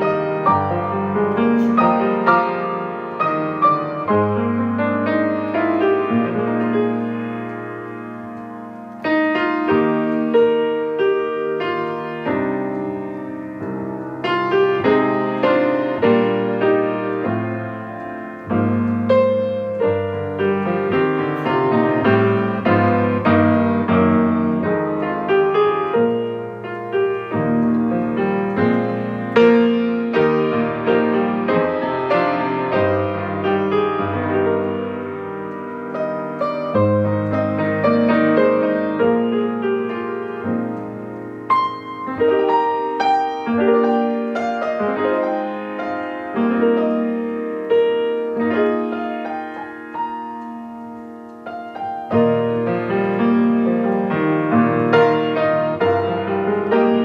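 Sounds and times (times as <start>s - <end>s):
piano playing slow chords: 0.0s - 57.0s.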